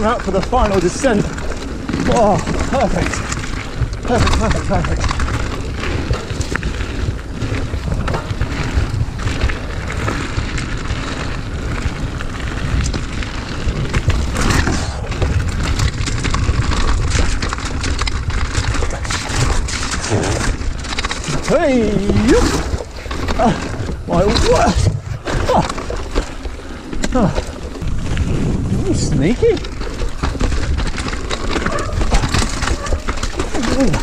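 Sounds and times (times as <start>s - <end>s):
bike rattling and knocking: 0.0s - 34.0s
tyres crunching over stones: 0.0s - 34.0s
wind buffeting microphone: 0.0s - 34.0s.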